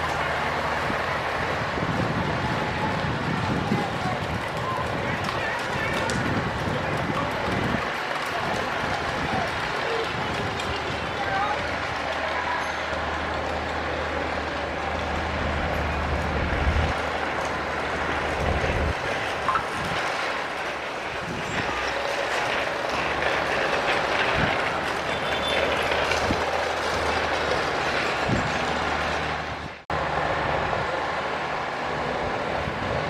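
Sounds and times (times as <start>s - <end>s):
steel tracks clanking: 0.0s - 29.8s
diesel engine running: 0.0s - 33.0s.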